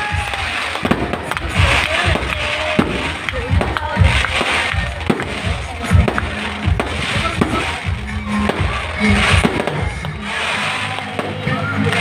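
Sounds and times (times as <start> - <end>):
crowd noise: 0.0 - 12.0
fireworks banging and crackling: 0.0 - 12.0
music playing: 0.0 - 12.0.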